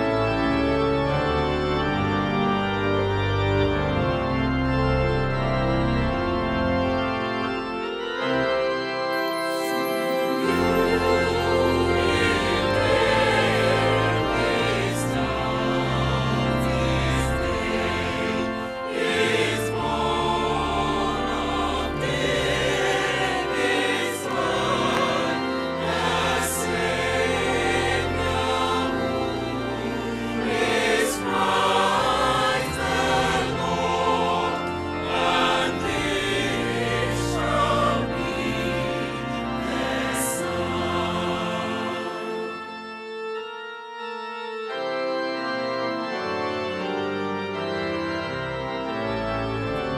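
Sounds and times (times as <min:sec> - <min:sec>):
choir singing in harmony: 0:00.0 - 0:43.6
organ and bass accompaniment: 0:00.0 - 0:49.9.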